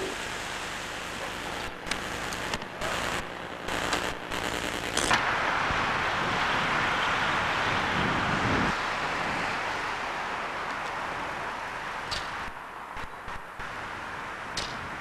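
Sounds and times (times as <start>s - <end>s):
street noise: 0.0s - 15.0s
tape hiss: 0.0s - 15.0s.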